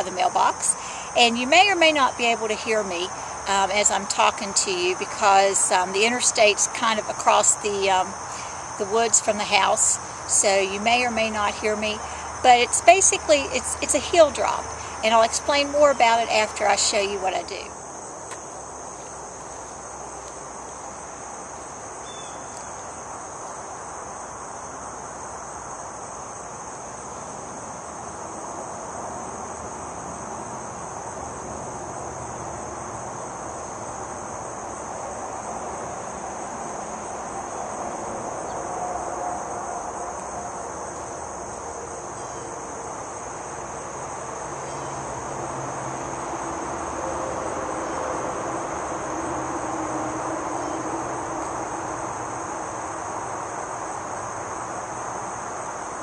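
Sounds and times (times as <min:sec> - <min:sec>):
distant highway traffic: 0:00.0 - 0:56.0
high-pitched insect chorus: 0:00.0 - 0:56.0.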